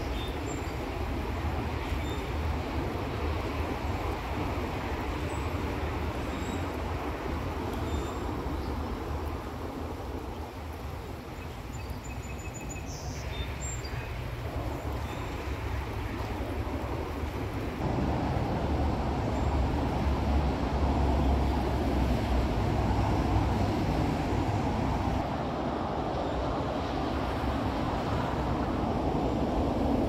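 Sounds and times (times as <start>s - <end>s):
creek flowing over stones: 0.0s - 30.0s.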